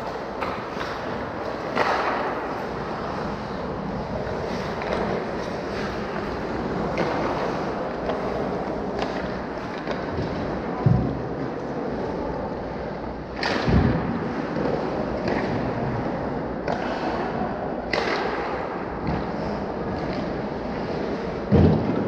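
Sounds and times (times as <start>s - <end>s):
hockey sticks striking puck: 0.0s - 11.4s, 13.3s - 22.0s.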